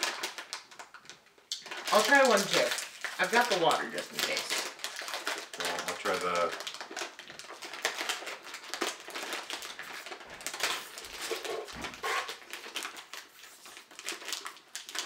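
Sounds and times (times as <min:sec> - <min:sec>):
plastic snack bag crinkling: 0:00.0 - 0:15.0.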